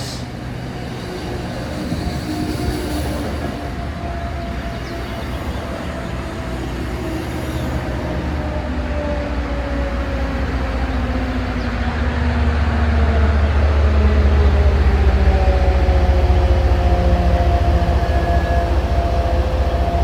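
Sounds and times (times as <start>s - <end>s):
train engine tone: 0.0s - 20.0s.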